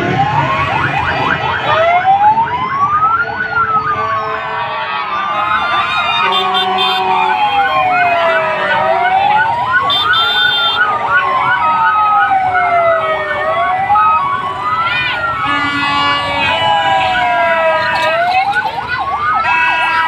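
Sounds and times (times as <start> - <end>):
siren wailing: 0.0 - 20.0.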